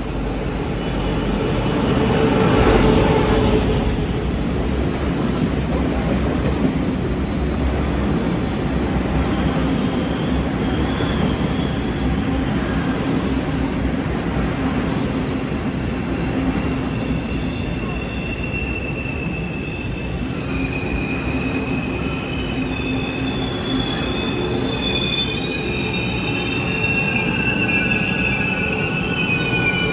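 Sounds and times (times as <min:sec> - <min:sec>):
high wavering brake squeal: 0:00.0 - 0:29.9
train rumbling: 0:00.0 - 0:29.9.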